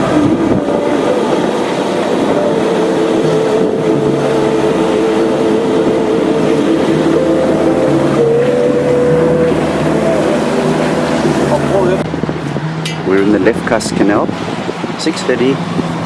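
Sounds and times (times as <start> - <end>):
boat engine droning: 0.0 - 16.0
rushing water wash: 0.0 - 16.0.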